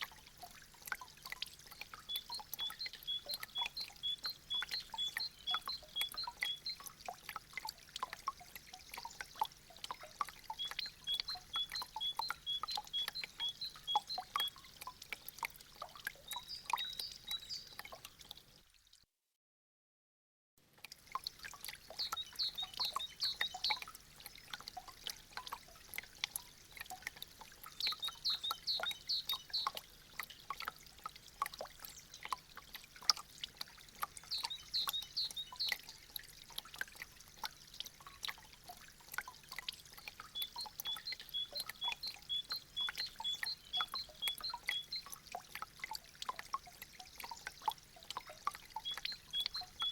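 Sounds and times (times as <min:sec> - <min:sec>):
meltwater dripping from icicles: 0:00.0 - 0:19.0, 0:20.6 - 0:49.9.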